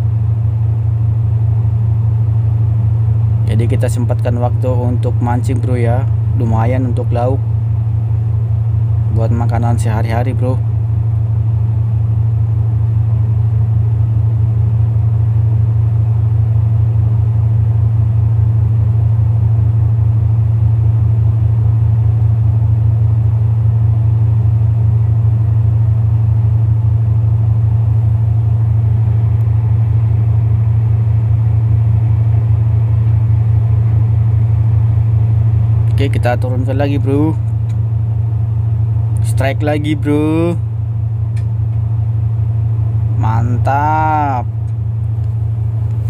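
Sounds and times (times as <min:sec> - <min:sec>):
ship machinery low drone: 0:00.0 - 0:46.0.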